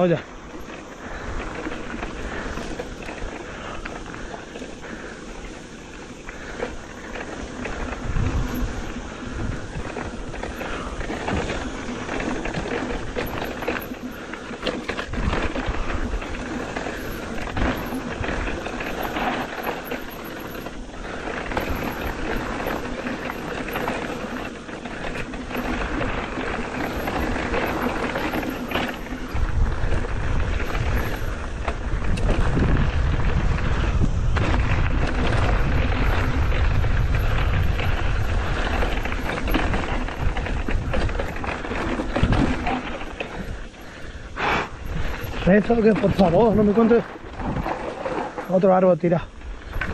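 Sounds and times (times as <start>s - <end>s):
bike rattling and knocking: 0.0s - 49.9s
tyres running over stones: 0.0s - 49.9s
wind rumble on microphone: 0.0s - 49.9s.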